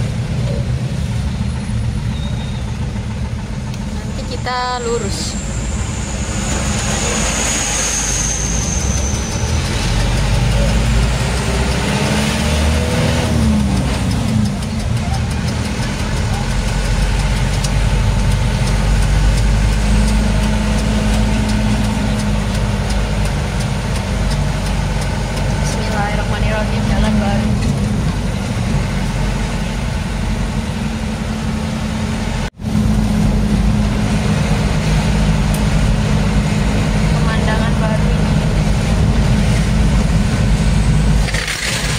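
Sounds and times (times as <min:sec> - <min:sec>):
diesel truck engine rumble: 0:00.0 - 0:41.9.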